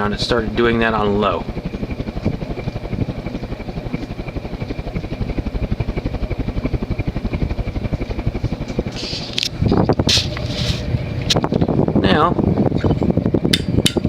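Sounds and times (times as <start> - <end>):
air buffeting microphone: 0.0 - 14.0
ceiling fan blades chopping air: 0.0 - 14.0.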